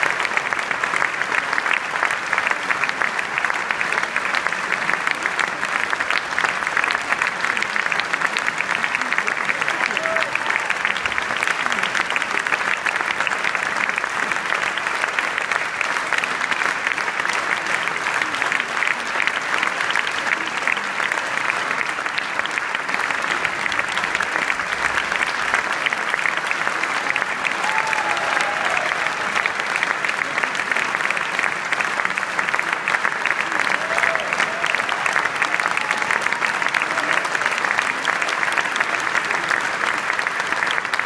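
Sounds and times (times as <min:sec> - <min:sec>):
audience applauding: 0:00.0 - 0:41.0.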